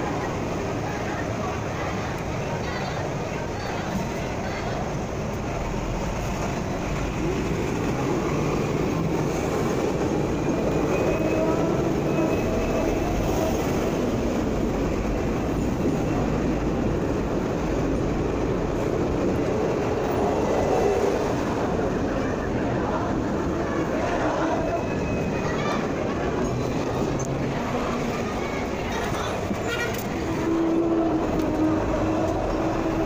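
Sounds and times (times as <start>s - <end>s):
tram rumbling: 0.0s - 33.0s
wheels squealing on rails: 0.0s - 33.0s.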